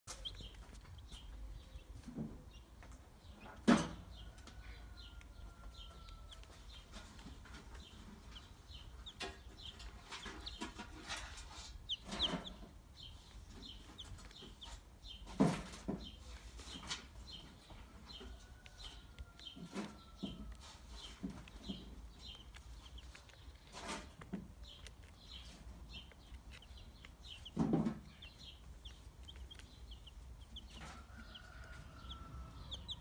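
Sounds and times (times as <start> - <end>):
chicks peeping: 0.1 - 33.0.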